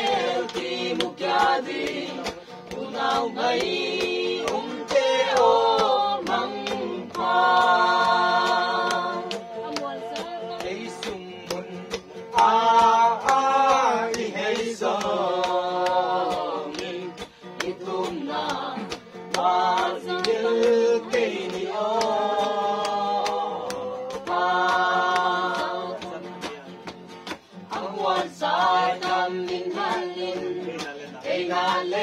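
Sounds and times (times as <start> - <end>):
group singing: 0.0 - 26.5, 27.3 - 32.0
strummed acoustic guitar: 0.0 - 32.0.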